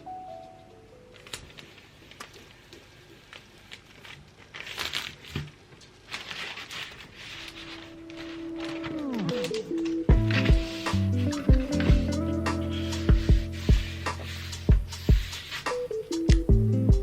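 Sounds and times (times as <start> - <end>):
paper or plastic crinkling: 1.1 - 16.0.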